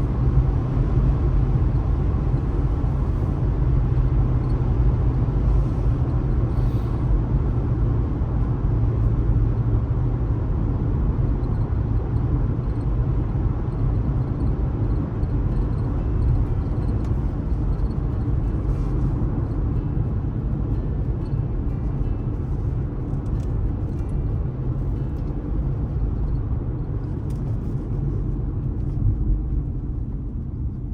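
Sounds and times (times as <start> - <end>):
car road and tyre noise: 0.0 - 30.9.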